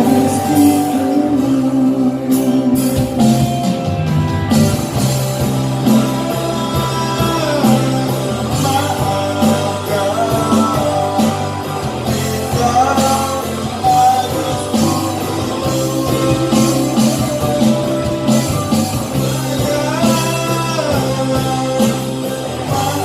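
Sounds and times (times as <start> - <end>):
gliding lead melody: 0.0 - 23.0
live pop ballad band: 0.0 - 23.0.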